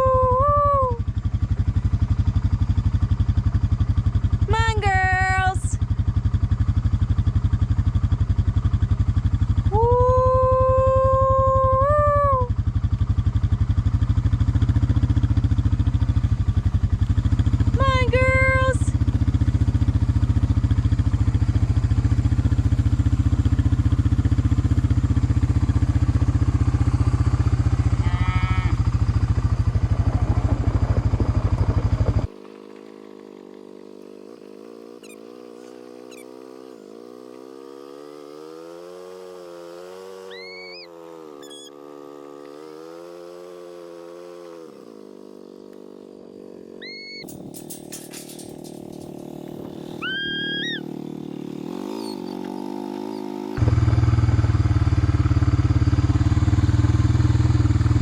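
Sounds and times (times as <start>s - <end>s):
four-wheeler engine running: 0.0s - 58.0s.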